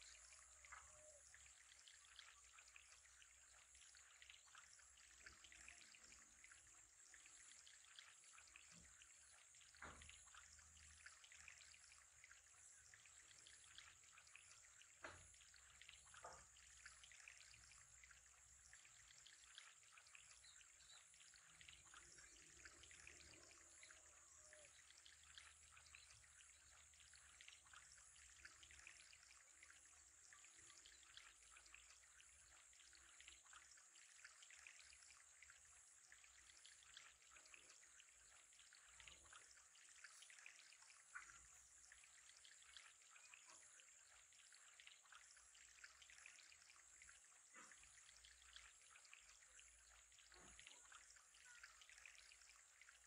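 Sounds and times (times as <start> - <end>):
faint water trickle: 0.0 - 53.0.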